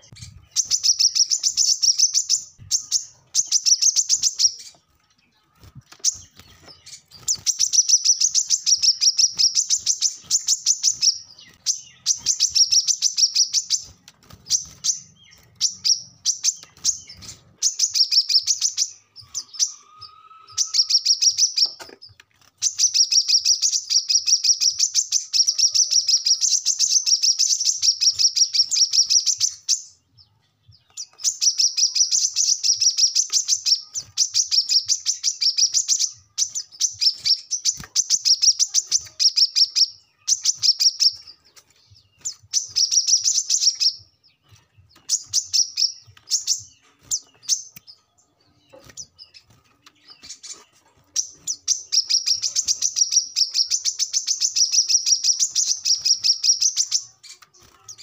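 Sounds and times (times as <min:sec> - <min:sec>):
sunbird chattering song: 0:00.0 - 0:30.1, 0:30.7 - 0:58.0.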